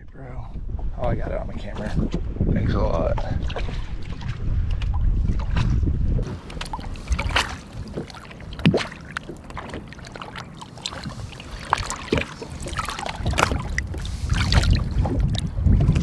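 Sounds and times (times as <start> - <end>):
water splashing: 3.2 - 16.0.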